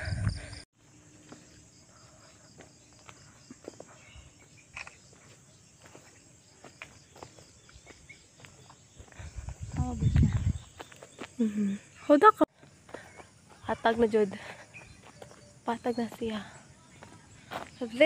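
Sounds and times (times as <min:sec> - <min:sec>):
faint insects chirping: 0:00.0 - 0:18.0.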